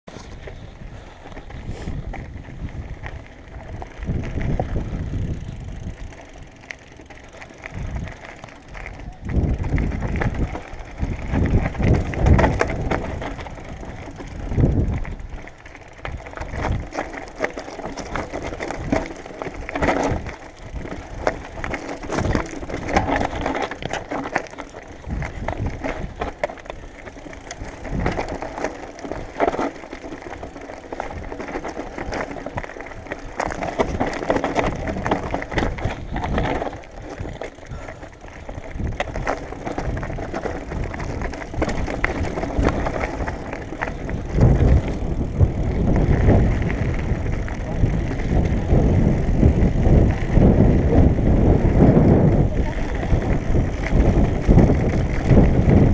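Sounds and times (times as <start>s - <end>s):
wind rumble on microphone: 0.1s - 6.5s, 7.6s - 55.9s
bike chain and frame rattling: 0.1s - 55.9s
tyres crunching over rock and gravel: 1.2s - 50.1s.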